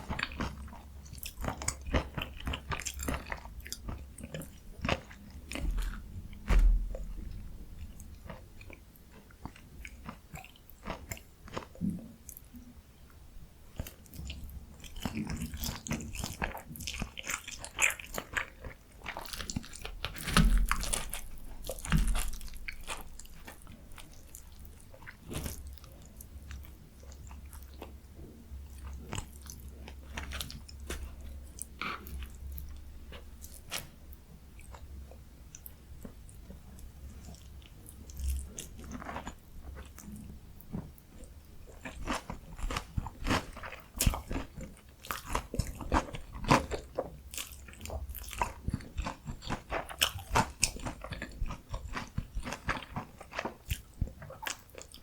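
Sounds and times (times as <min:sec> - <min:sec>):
crunchy chewing close up: 0:00.0 - 0:12.5, 0:13.8 - 0:55.0.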